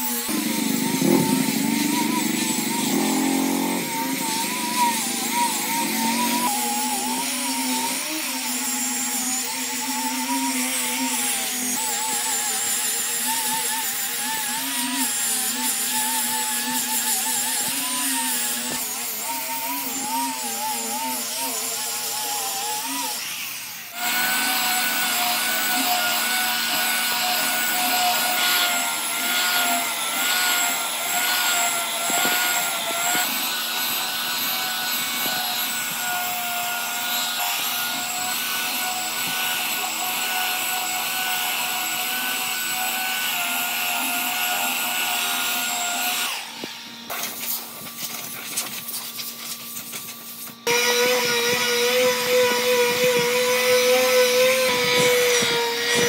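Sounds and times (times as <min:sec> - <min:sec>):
power tool motor whine: 0:00.0 - 0:56.0.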